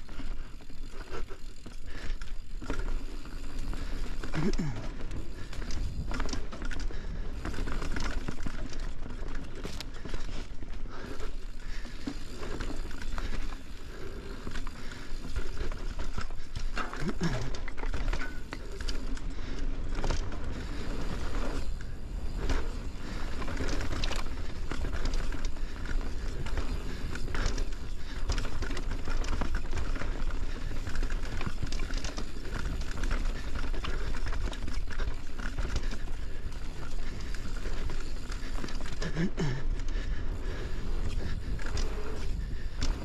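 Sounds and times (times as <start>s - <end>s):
bike clattering over bumps: 0.0s - 43.0s
tyres rolling over dirt: 0.1s - 43.0s.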